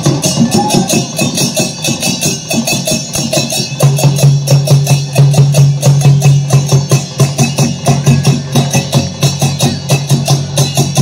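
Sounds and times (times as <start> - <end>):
percussion beating quick rhythm: 0.0 - 11.0.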